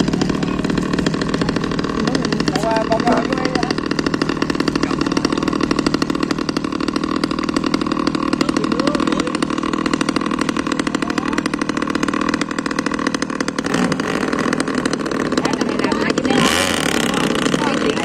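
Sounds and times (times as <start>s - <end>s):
small boat engine puttering: 0.0s - 18.0s.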